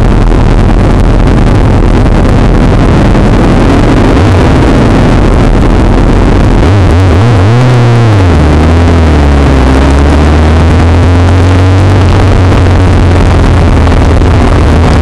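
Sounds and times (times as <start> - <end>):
motorcycle engine revving: 0.0 - 15.0
wind rumble on microphone: 0.0 - 15.0.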